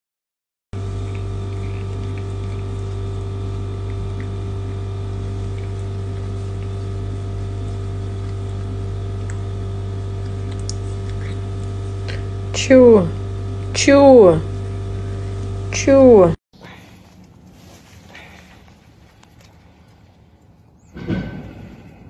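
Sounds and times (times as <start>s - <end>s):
steady multi-pitch hum: 0.8s - 20.2s.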